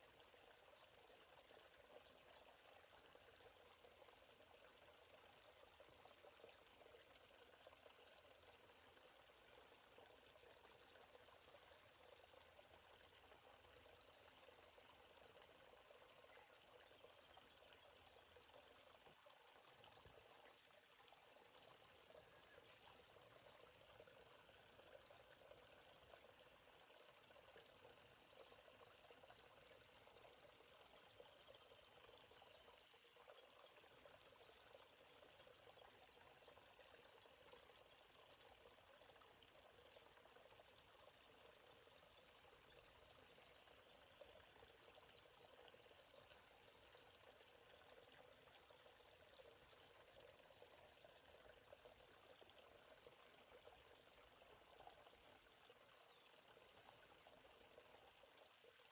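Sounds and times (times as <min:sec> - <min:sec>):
faint stream trickling: 0:00.0 - 0:58.9
insects chirring: 0:00.0 - 0:58.9.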